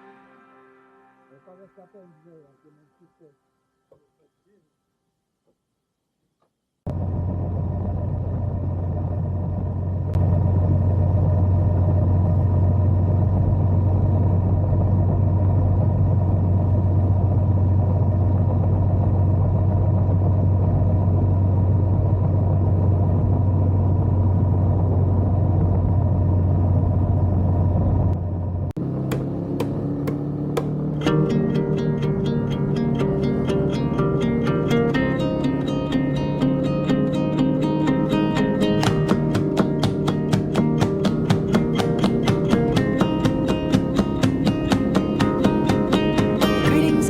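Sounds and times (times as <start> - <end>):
motorcycle engine rumble: 6.9 - 47.0.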